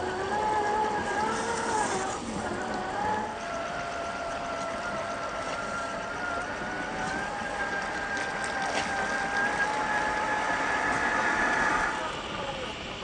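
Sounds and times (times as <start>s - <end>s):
electric motor and gears whining: 0.0s - 12.4s.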